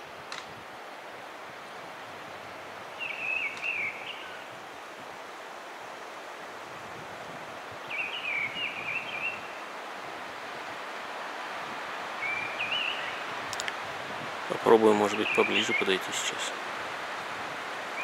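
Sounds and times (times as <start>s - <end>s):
wind hiss: 0.0s - 18.0s.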